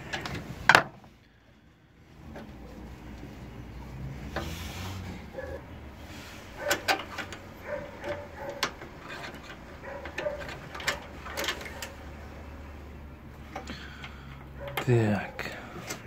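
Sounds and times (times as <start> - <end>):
squeaks of parts and wires: 2.2 - 16.0.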